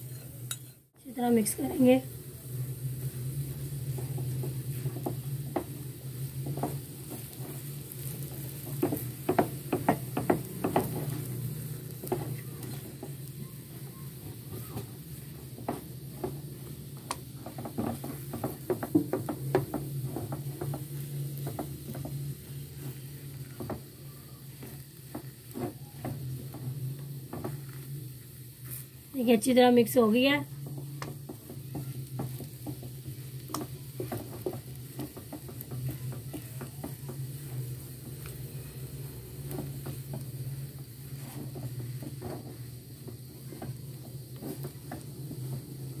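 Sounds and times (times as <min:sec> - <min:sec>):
spatula scraping a frying pan: 0:03.0 - 0:23.8, 0:24.4 - 0:46.0.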